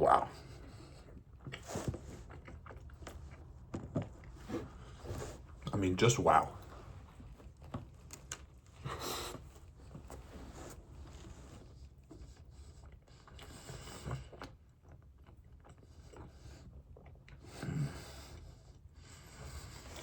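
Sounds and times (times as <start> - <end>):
faint chewing: 0.2 - 5.8, 6.5 - 20.0.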